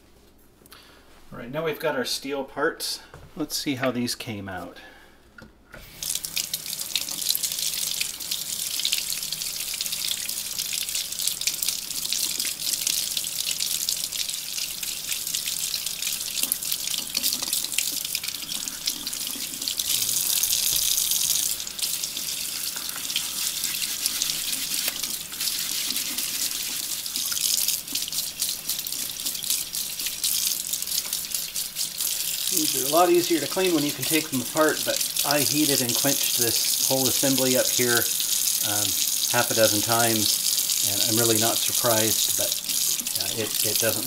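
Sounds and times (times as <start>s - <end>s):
faucet water splashing into sink: 5.9s - 44.0s.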